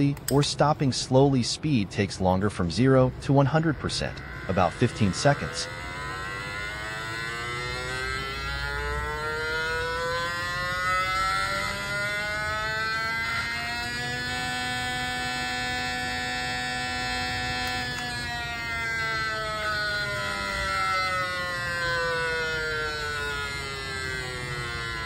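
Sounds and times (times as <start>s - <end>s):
small electric motor buzzing: 3.6s - 25.0s.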